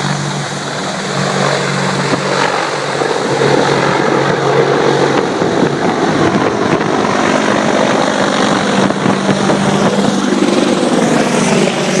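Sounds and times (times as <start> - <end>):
helicopter running: 0.0 - 12.0
wind noise on microphone: 0.0 - 12.0.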